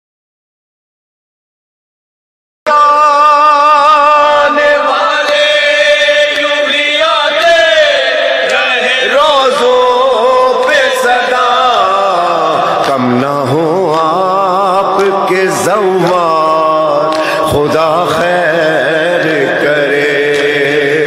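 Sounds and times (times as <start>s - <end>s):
male voices chanting a lament: 2.7s - 21.0s.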